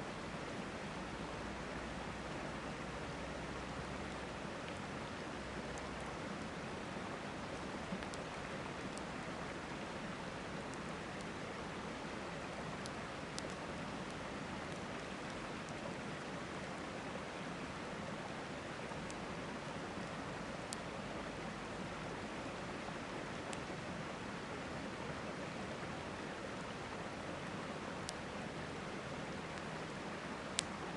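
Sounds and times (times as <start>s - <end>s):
river water rushing: 0.0s - 30.9s
campfire crackles: 0.5s - 30.9s.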